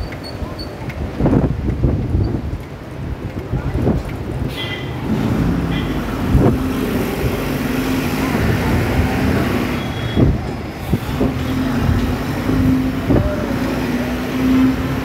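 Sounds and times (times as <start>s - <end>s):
motorbike and car engines: 0.0s - 15.0s.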